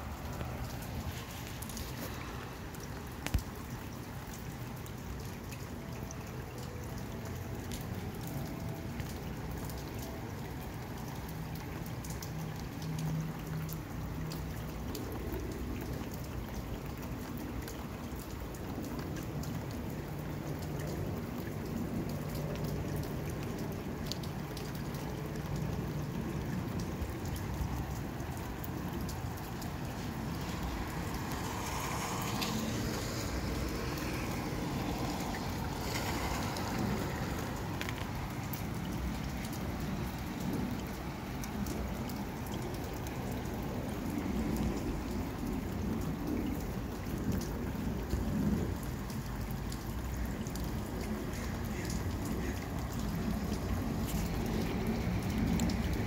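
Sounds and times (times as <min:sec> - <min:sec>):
steady rain with drop taps: 0:00.0 - 0:56.0.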